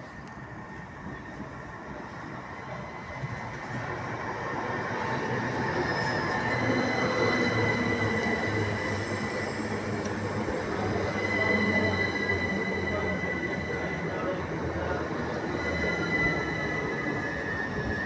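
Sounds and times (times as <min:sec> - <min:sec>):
train rumble: 0:00.0 - 0:18.0
wheels squealing on rails: 0:00.0 - 0:18.0.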